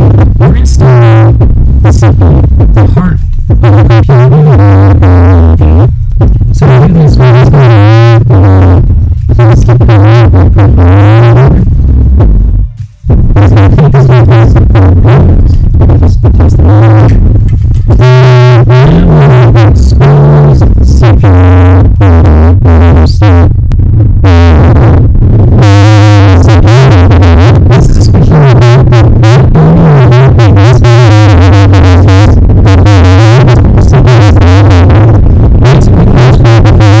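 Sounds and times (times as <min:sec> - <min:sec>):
bass-boosted synthesizer music: 0:00.0 - 0:37.0.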